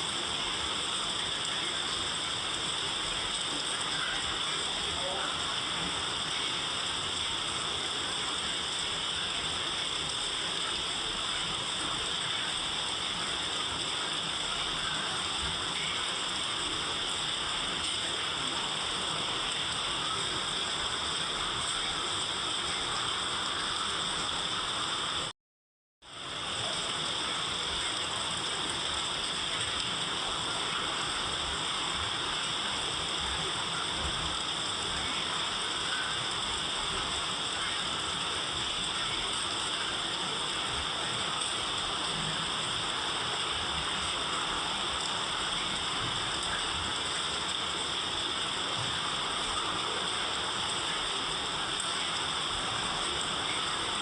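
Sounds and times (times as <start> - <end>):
steady rain: 0.0 - 25.3, 26.0 - 54.0.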